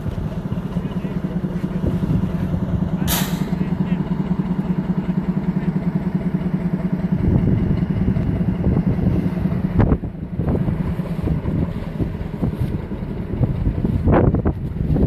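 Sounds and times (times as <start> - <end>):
locomotive engine running: 0.0 - 15.0
wind buffeting microphone: 0.0 - 15.0.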